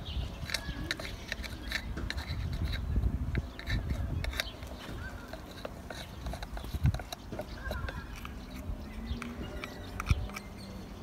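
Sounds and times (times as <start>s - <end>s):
plastic rubbing: 0.0s - 11.0s
small plastic clicks: 0.4s - 10.7s.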